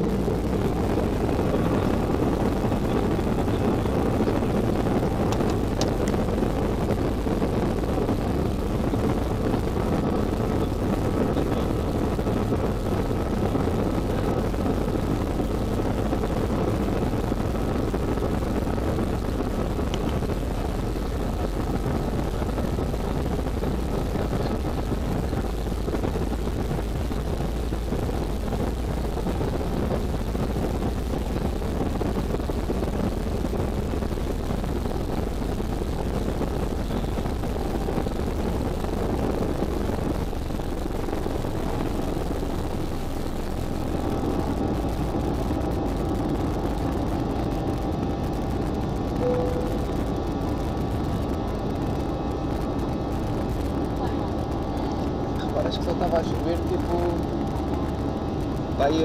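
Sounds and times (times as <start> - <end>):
faint high engine whine: 0.0 - 59.0
jet engines rushing: 0.0 - 59.0
rumble of takeoff roll: 0.0 - 59.0.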